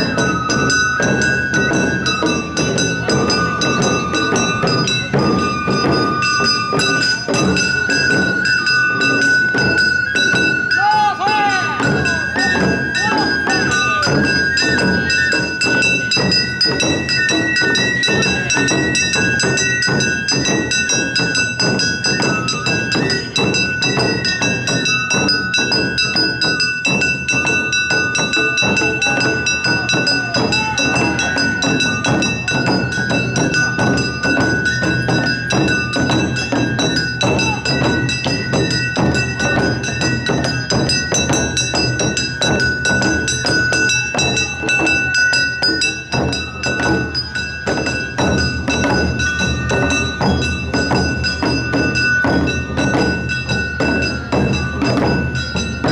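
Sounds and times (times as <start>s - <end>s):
bamboo flute melody: 0.0s - 55.9s
hand gong ringing: 0.0s - 55.9s
taiko drums beating: 0.0s - 55.9s.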